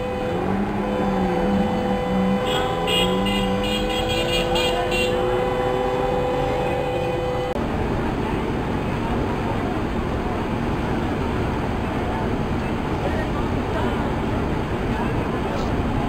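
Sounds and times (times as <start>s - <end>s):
vehicle engines running: 0.0s - 16.0s.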